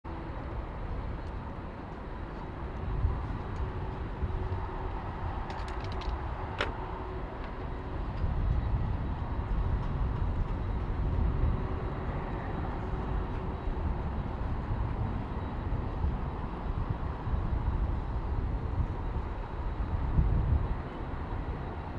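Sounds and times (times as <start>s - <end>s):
distant jet engines rumble: 0.1s - 21.9s
wind on microphone: 0.5s - 21.9s.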